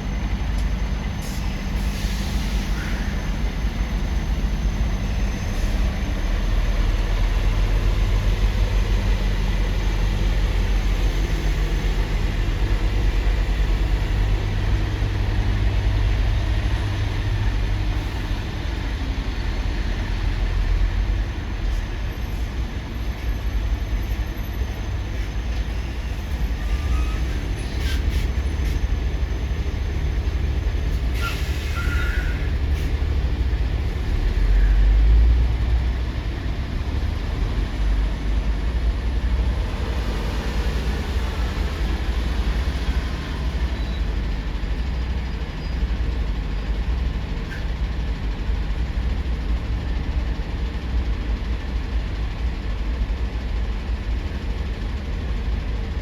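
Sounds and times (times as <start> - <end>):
heavy vehicle engines rumbling: 0.0 - 56.0.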